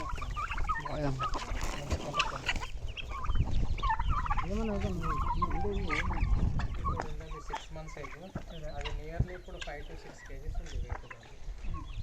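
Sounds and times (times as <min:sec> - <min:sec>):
turkeys and chickens calling: 0:00.0 - 0:12.0.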